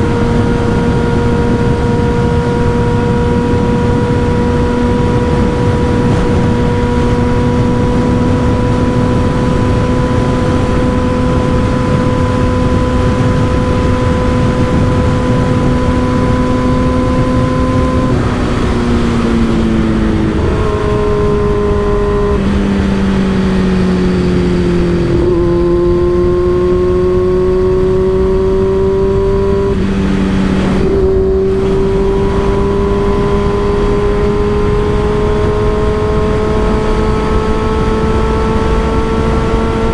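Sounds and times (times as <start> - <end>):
motorcycle engine: 0.0 - 39.9
wind noise rushing: 0.0 - 39.9.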